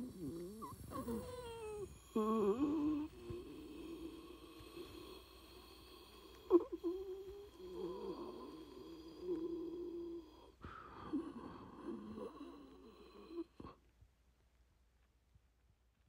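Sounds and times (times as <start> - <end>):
person wheezing breaths: 0.0 - 13.9.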